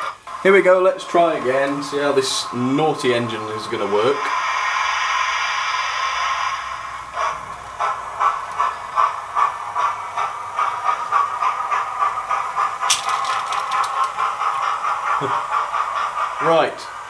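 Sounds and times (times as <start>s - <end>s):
model locomotive steam chuffs: 0.0s - 17.0s.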